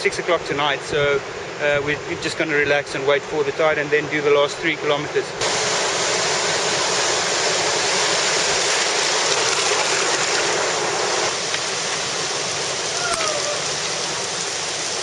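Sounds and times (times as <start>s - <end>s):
rushing water: 0.0s - 15.0s
surf churning: 0.0s - 15.0s.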